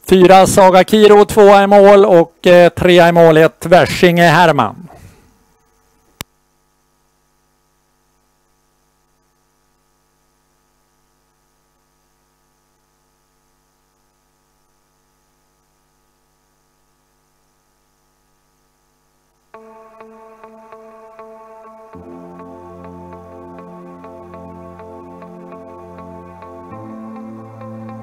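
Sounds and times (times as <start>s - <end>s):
faint electrical mains hum: 0.0s - 28.0s.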